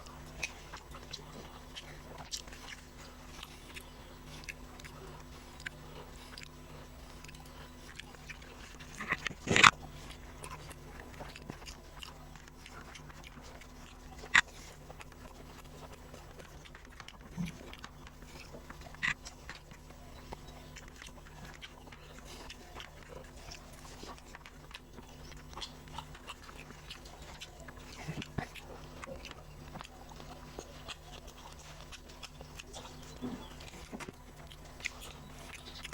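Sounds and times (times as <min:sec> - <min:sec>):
person chewing: 0:00.0 - 0:35.9
steady low hum: 0:00.0 - 0:35.9.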